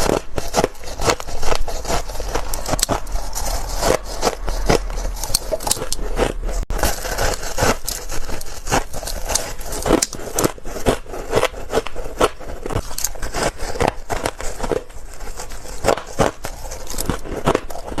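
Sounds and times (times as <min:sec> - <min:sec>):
frost crunching when chewed: 0:00.0 - 0:18.0.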